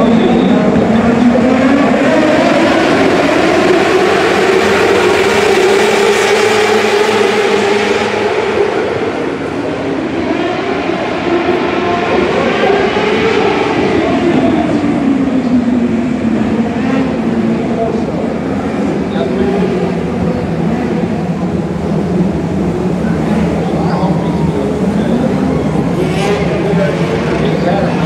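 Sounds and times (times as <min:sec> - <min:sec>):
race car engines circling: 0:00.0 - 0:28.0.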